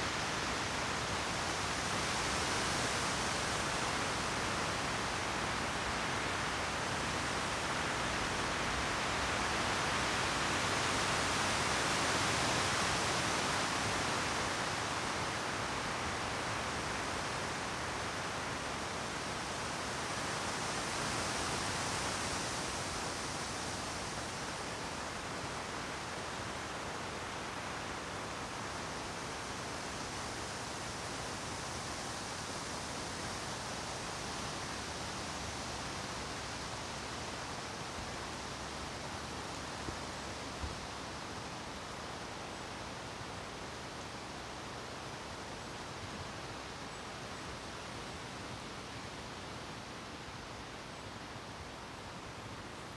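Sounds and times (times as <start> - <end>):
wind rushing through trees: 0.0 - 52.9.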